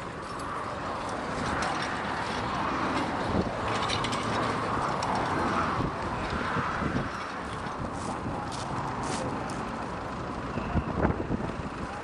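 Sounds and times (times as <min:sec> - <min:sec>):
plough and harness rattling: 0:00.0 - 0:09.7.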